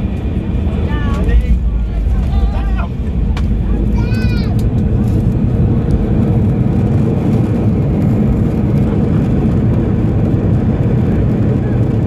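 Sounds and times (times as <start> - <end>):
airplane landing rumble in cabin: 0.0 - 12.0.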